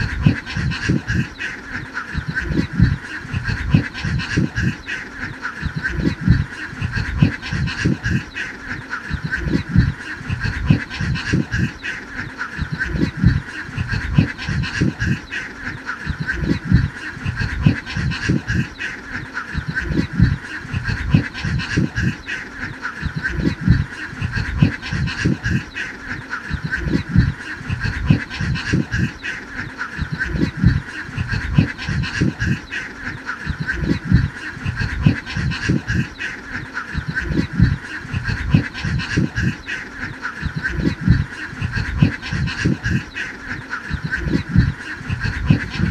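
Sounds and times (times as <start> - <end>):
flock of ducks quacking: 0.0 - 45.9.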